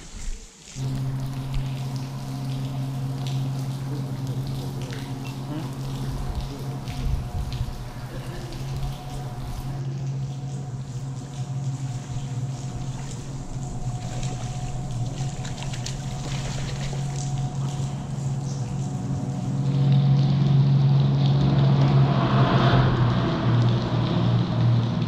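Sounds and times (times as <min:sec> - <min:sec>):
light water splashing: 0:00.0 - 0:25.0
boat motor humming: 0:00.8 - 0:25.0.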